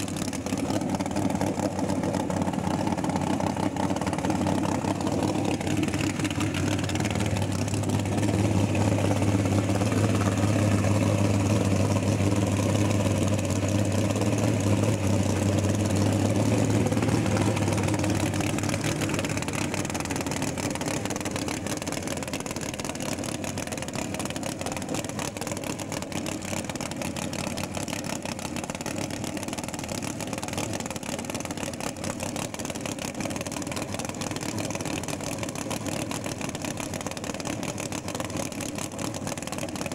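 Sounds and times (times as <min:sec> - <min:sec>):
vee eight engine idling: 0:00.0 - 0:39.9.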